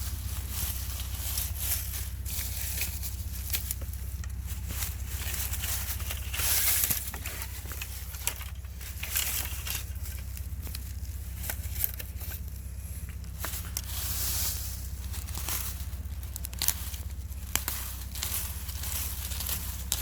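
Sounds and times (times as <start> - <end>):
low rumble: 0.0 - 20.0
stick scraping soil and leaves: 0.0 - 20.0.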